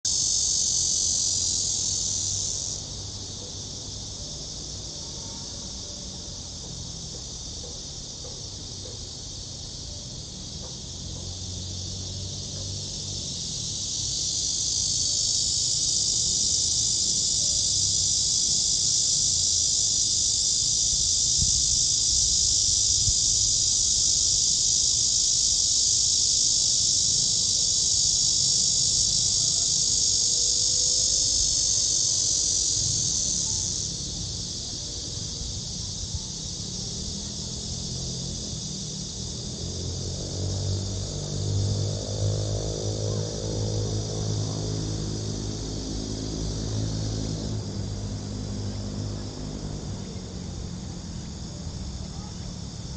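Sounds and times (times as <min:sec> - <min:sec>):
cicadas buzzing: 0:00.0 - 0:52.9.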